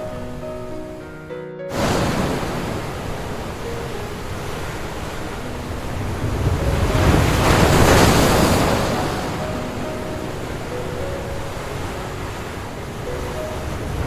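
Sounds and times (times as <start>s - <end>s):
waves washing on beach: 1.7s - 14.0s.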